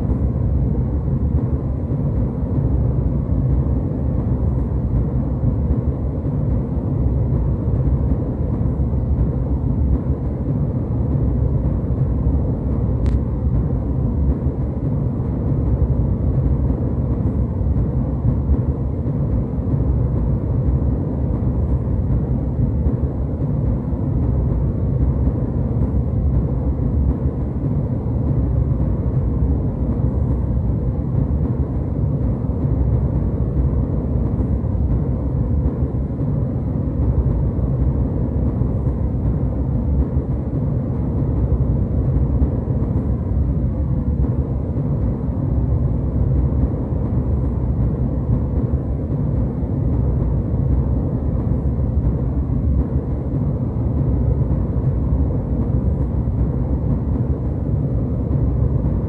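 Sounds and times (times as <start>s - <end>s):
airliner cabin jet rumble: 0.0s - 59.0s.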